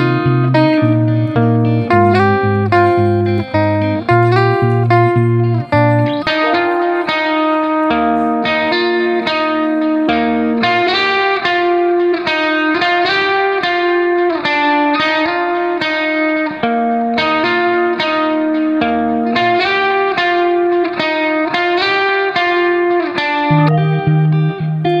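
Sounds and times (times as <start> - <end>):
plucked guitar tune: 0.0 - 25.0.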